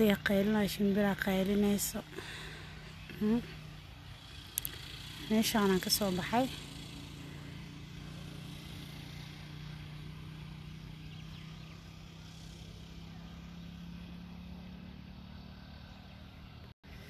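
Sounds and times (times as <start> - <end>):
distant engine humming: 0.0 - 17.0.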